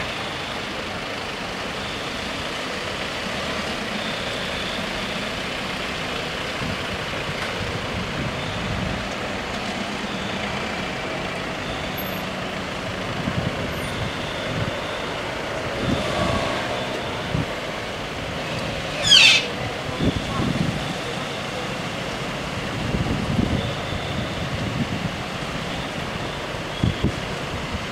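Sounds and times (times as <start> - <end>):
scooters and cars idling: 0.0 - 27.9.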